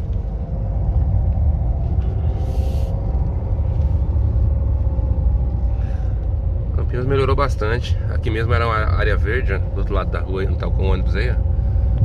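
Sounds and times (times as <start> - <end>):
road and engine rumble in cab: 0.0 - 12.0.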